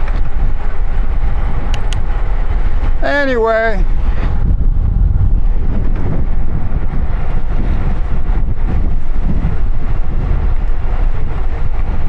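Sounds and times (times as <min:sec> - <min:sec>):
bicycle road noise: 0:00.0 - 0:12.0
wind rumble on microphone: 0:00.0 - 0:12.0.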